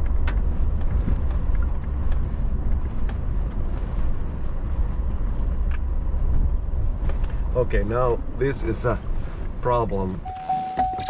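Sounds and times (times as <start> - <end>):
vehicle engine and tyres on gravel: 0.0 - 11.0.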